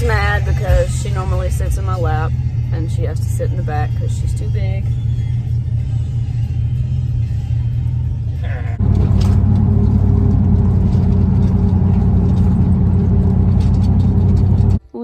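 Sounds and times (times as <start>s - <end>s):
vehicle rumble inside cabin: 0.0s - 15.0s.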